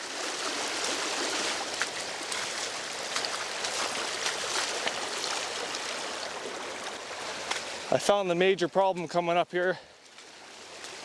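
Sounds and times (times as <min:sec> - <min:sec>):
rainwater flowing down road: 0:00.0 - 0:11.0.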